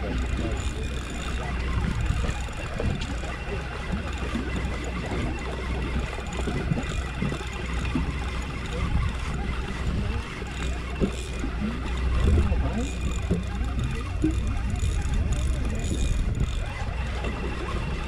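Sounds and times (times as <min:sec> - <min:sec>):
boat engine rumbling: 0:00.0 - 0:18.0
fishing reel cranking: 0:00.0 - 0:18.0.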